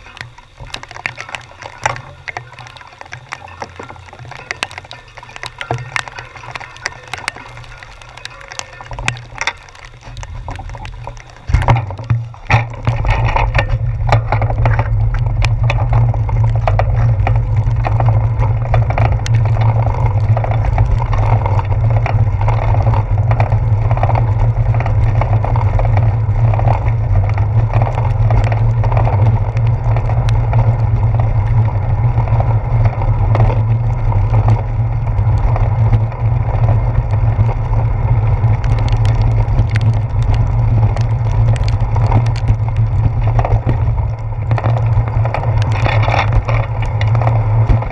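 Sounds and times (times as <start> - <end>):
tyres hissing on wet road: 0.0 - 47.9
wind buffeting microphone: 0.0 - 47.9.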